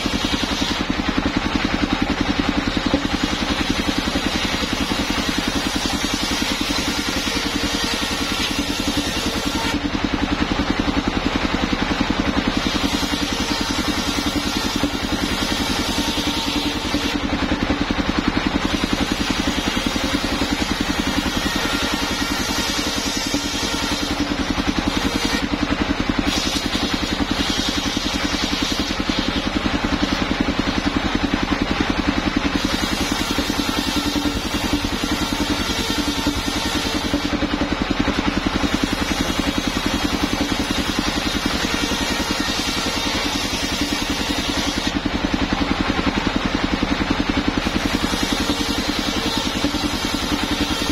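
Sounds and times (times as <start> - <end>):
circular saw hissing through wood: 0.0 - 31.4, 32.3 - 45.1, 47.5 - 50.9
sawmill engine droning: 0.0 - 50.9.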